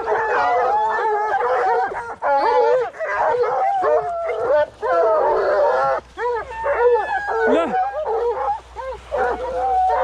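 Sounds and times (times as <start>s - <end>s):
hounds baying and howling: 0.0s - 10.0s.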